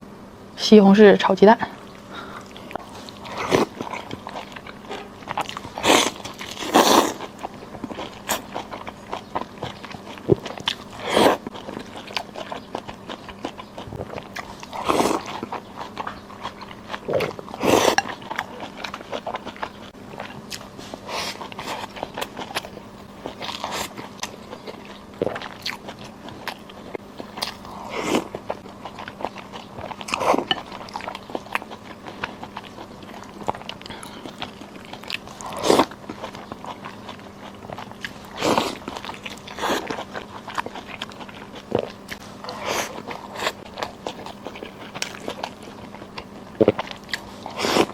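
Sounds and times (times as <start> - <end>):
faint steady hum: 0.0 - 47.9
person chewing and biting: 2.0 - 47.9.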